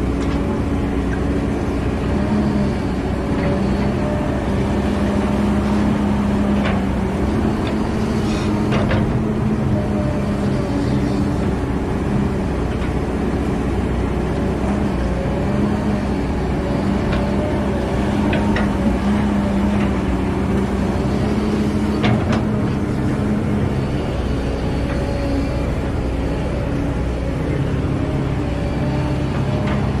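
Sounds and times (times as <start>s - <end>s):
excavator diesel engine: 0.0s - 30.0s.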